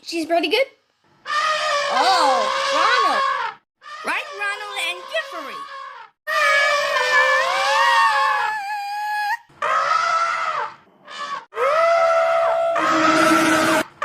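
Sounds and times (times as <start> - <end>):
elephant trumpeting: 1.2 - 14.0.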